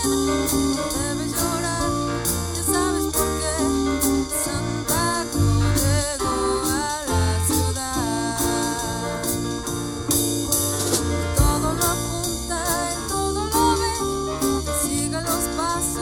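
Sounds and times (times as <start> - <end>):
live band playing: 0.0 - 16.0
pitch-bending lead melody: 0.0 - 16.0.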